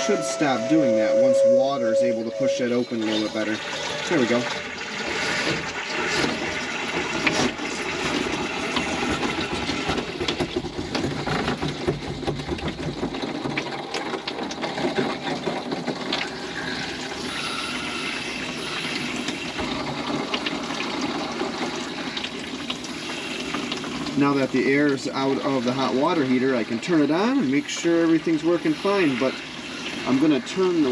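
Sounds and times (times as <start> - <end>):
water and air rushing through pipes: 0.0 - 30.9.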